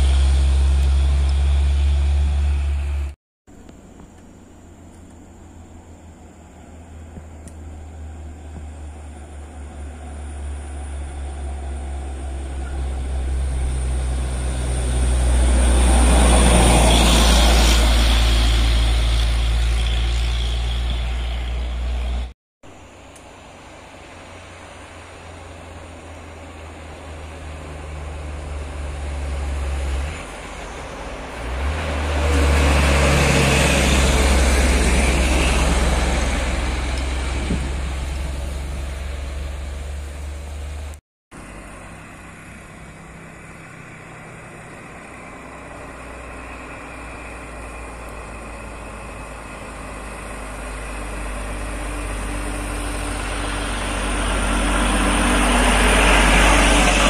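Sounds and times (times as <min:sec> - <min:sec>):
diesel trucks driving past: 0:00.0 - 0:57.0.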